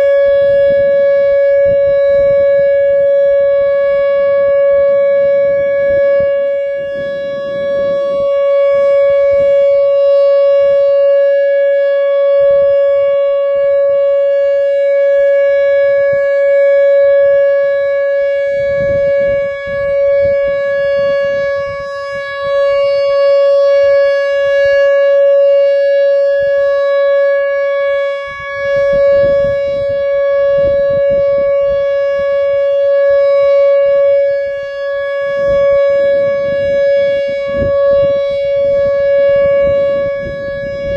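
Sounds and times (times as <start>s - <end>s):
electronic siren steady tone: 0.0s - 40.9s
low rumbling wind gusts: 0.0s - 40.9s.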